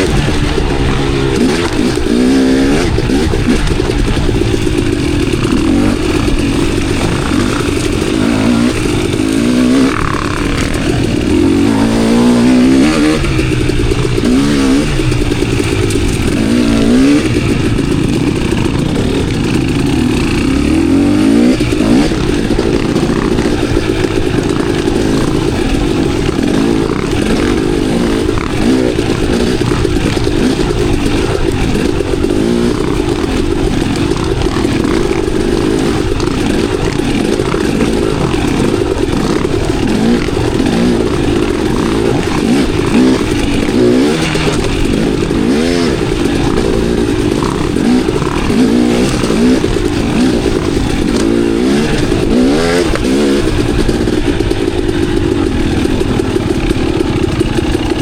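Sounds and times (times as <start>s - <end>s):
bike clattering over rough ground: 0.0s - 58.0s
dirt bike engine revving: 0.0s - 58.0s.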